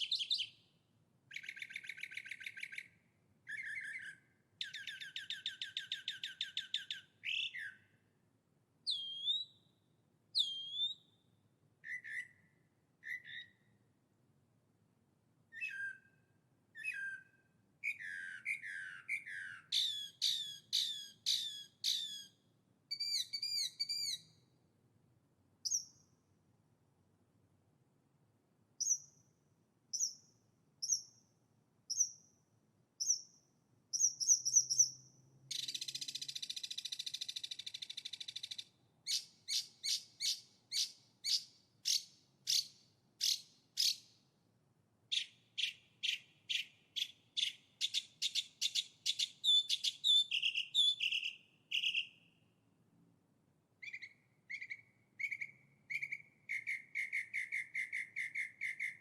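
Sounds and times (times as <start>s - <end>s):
songbird singing: 0.0s - 8.0s, 8.8s - 13.8s, 15.5s - 24.5s, 25.6s - 26.2s, 28.8s - 32.4s, 33.0s - 44.2s, 45.1s - 52.4s, 53.8s - 59.0s.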